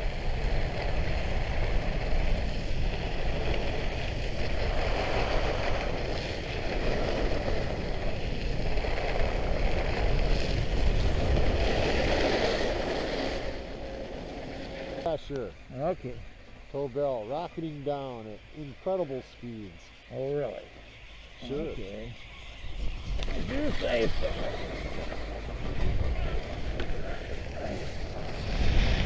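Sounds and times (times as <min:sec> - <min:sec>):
wind on microphone: 0:00.0 - 0:16.6, 0:20.9 - 0:29.0
blades scraping over snow: 0:00.0 - 0:29.0.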